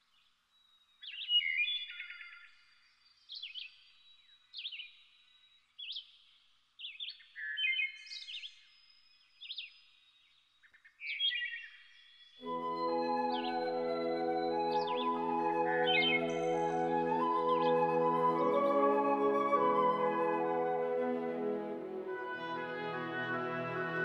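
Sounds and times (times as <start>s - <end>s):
birds chirping and trilling: 0.8s - 21.8s.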